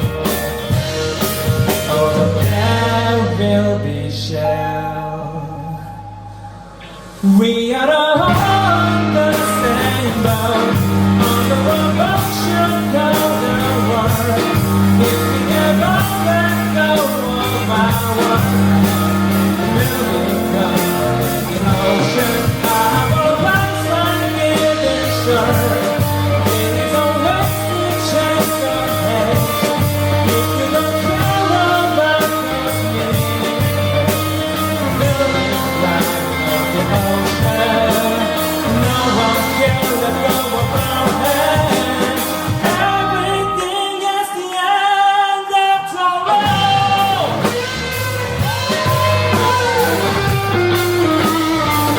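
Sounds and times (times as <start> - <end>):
bass guitar: 0.0 - 44.0, 45.8 - 51.9
drums: 0.0 - 51.9
rock band playing: 0.0 - 51.9.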